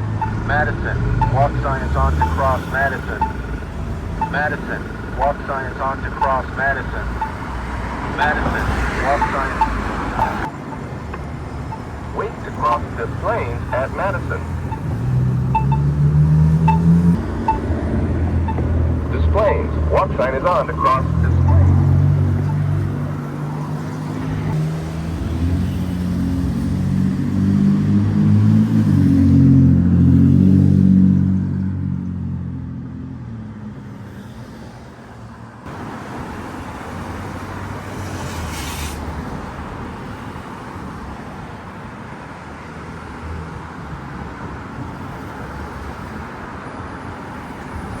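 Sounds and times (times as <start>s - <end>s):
steady traffic hum: 0.0s - 48.0s.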